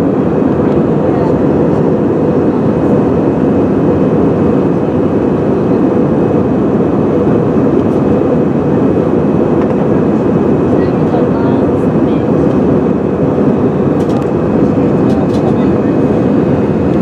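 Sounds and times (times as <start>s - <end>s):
aircraft cabin engine and airflow noise: 0.0s - 17.0s.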